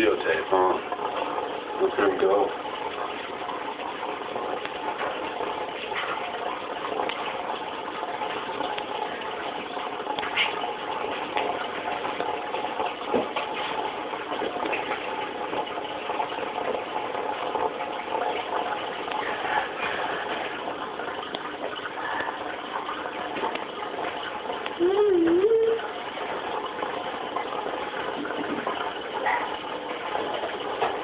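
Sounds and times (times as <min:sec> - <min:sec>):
water splashing and trickling: 0:00.0 - 0:31.0.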